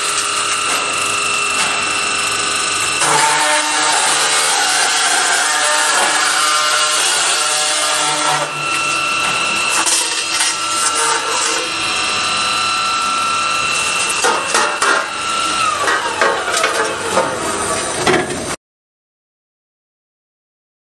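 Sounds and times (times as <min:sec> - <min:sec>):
circular saw whining: 0:00.0 - 0:18.0
grinding noise: 0:00.0 - 0:18.6.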